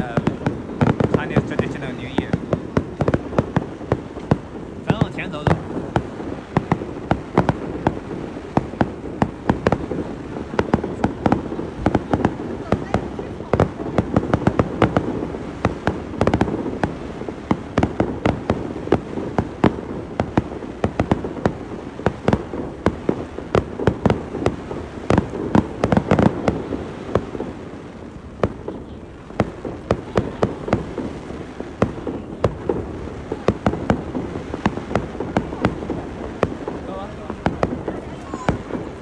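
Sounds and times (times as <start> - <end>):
fireworks bangs and crackles: 0.0 - 39.0
rumbling echo: 0.0 - 39.0.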